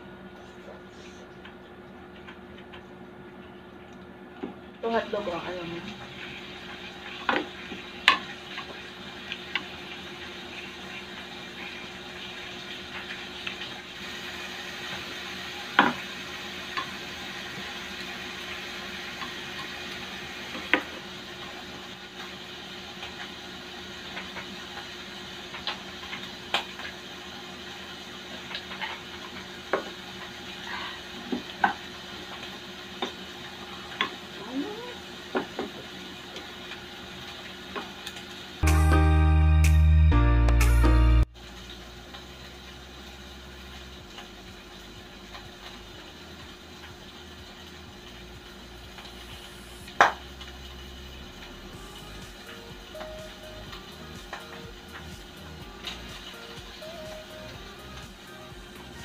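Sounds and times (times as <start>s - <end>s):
meat sizzling on grill: 4.8s - 38.6s, 41.4s - 59.0s.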